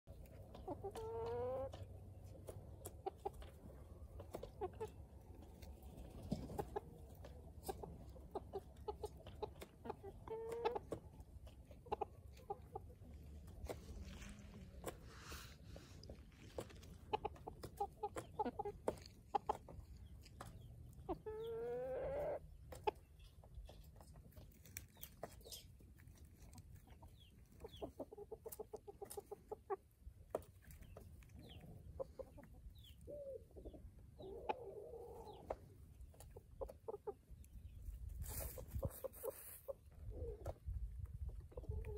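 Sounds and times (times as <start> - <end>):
chickens clucking: 0.1 - 41.9.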